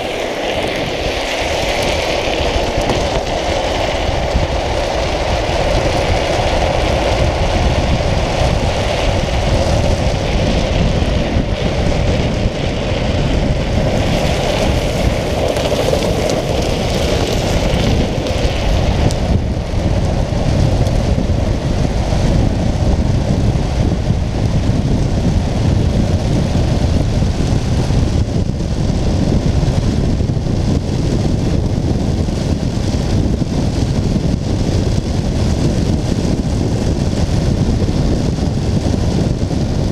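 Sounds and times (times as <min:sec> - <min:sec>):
wheels rolling on asphalt: 0:00.0 - 0:39.9
wind rushing over microphone: 0:00.0 - 0:39.9.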